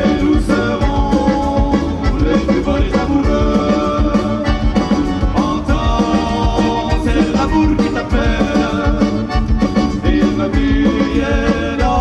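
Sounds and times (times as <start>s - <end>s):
accordion: 0.0s - 12.0s
bass guitar: 0.0s - 12.0s
drums: 0.0s - 12.0s
live band playing folk-pop: 0.0s - 12.0s.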